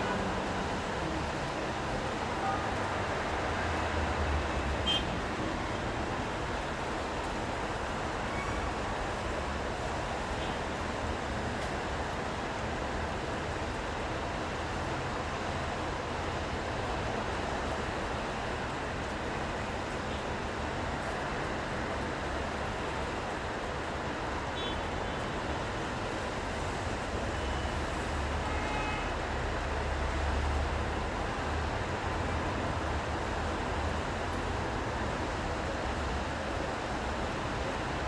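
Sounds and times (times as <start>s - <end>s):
tyre and rain noise: 0.0s - 38.0s.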